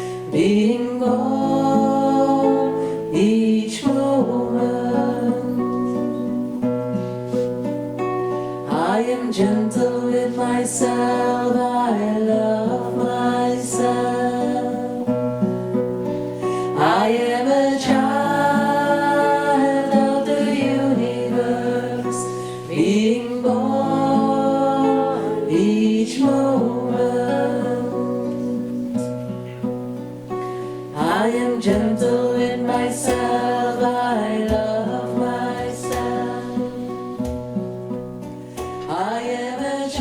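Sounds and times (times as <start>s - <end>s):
person singing long notes: 0.0s - 6.6s, 8.6s - 15.2s, 16.6s - 29.1s, 30.9s - 37.4s
strummed acoustic guitar: 0.0s - 40.0s.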